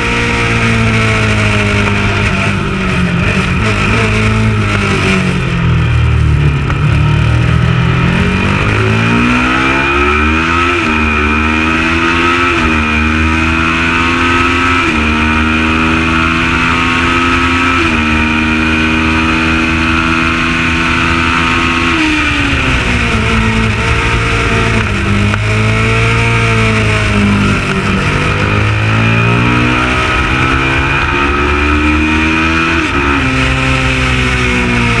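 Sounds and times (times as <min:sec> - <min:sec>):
motorcycle engine accelerating and shifting: 0:00.0 - 0:35.0.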